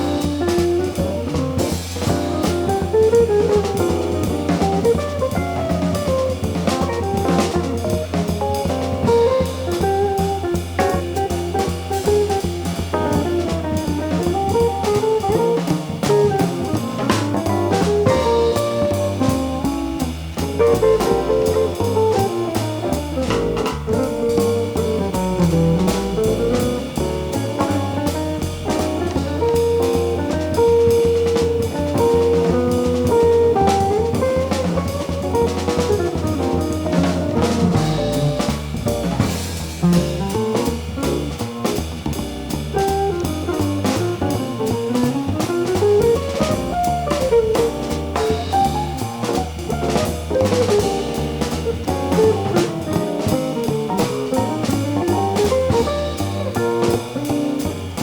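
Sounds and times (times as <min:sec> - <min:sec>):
bass line: 0:00.0 - 0:58.0
drum kit with cymbals: 0:00.0 - 0:58.0
guitar melody: 0:00.0 - 0:58.0.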